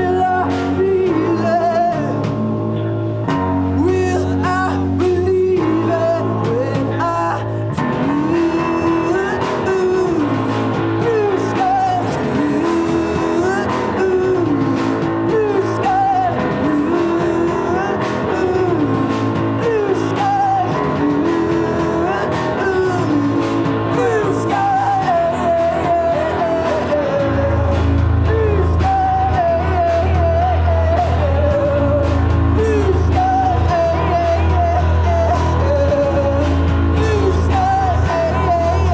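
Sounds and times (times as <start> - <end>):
person singing: 0.0 - 2.6, 3.7 - 38.9
electric bass: 0.0 - 38.9
electric guitar: 0.0 - 38.9.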